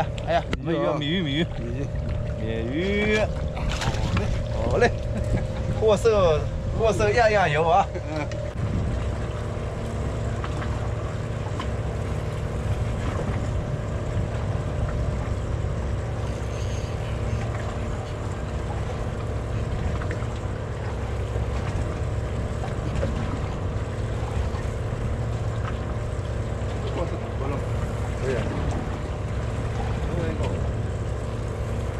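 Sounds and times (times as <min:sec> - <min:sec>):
boat engine droning: 0:00.0 - 0:31.9
light wind: 0:00.0 - 0:31.9
water noise: 0:00.0 - 0:31.9.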